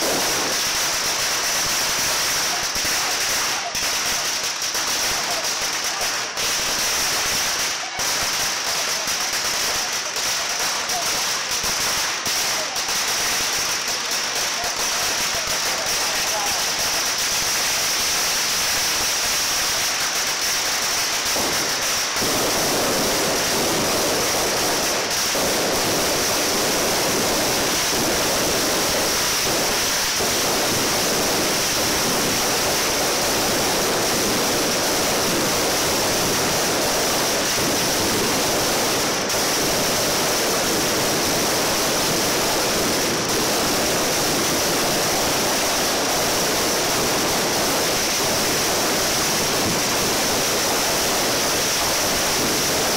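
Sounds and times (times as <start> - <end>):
firecrackers banging: 0.0 - 52.9.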